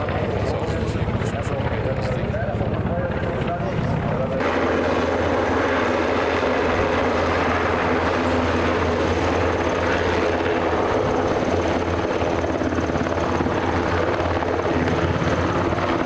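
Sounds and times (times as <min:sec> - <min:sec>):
helicopter rotor and turbine: 0:00.0 - 0:16.0.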